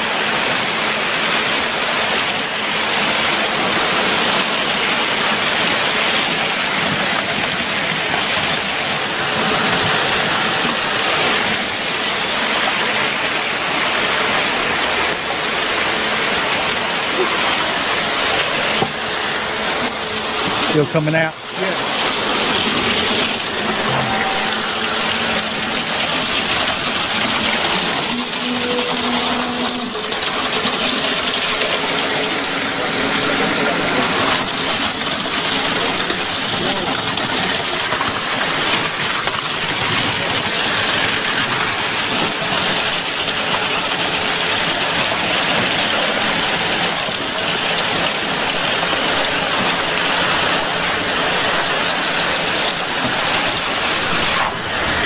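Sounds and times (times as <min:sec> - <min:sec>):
concrete rushing from hose: 0:00.0 - 0:55.0.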